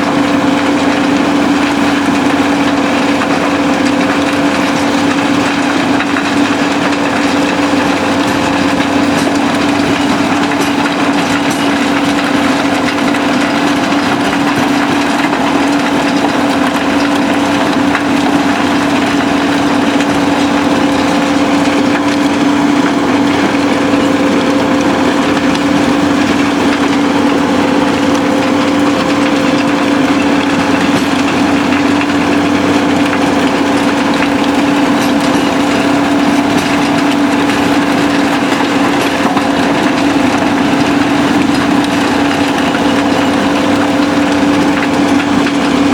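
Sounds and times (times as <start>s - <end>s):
crusher breaking rubble: 0.0s - 45.9s
diesel engines: 0.0s - 45.9s.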